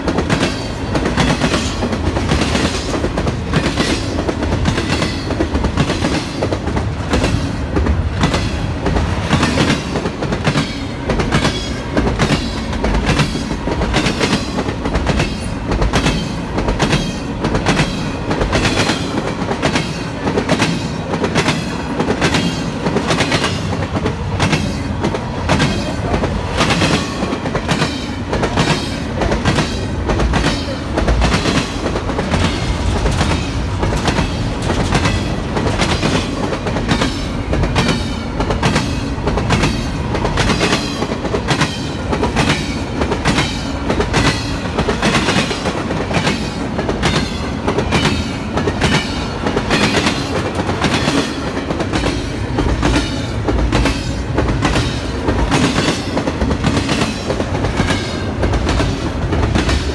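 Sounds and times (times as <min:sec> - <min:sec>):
train rumble: 0:00.0 - 0:59.9
train wheels clacking on track: 0:00.0 - 0:59.9.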